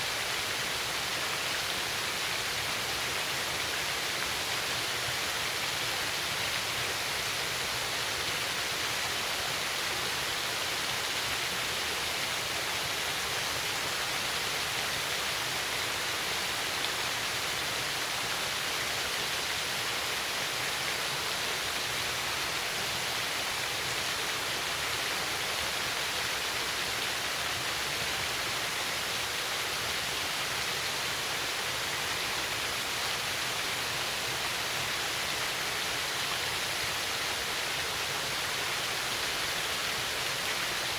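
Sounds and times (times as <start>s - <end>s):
small waterfall cascading: 0.0s - 40.9s.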